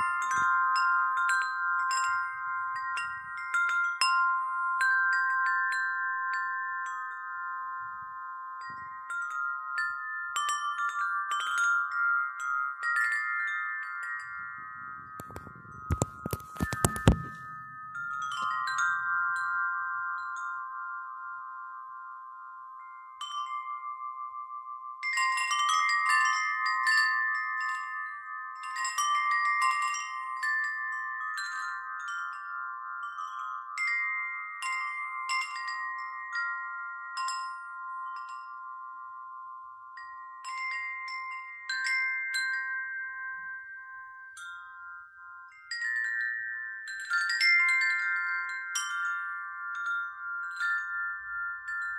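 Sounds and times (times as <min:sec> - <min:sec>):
wind chimes ringing: 0:00.0 - 0:51.9.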